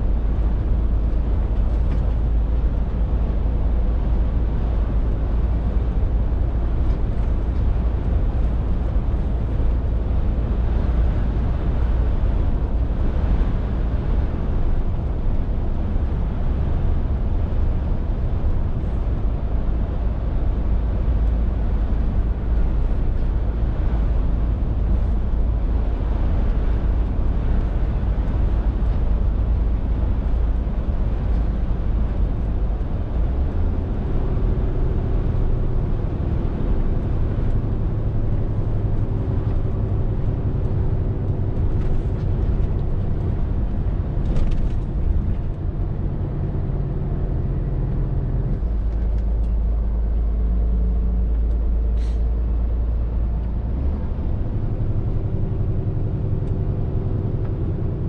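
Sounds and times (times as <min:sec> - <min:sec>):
lorry diesel engine drone: 0:00.0 - 0:58.0.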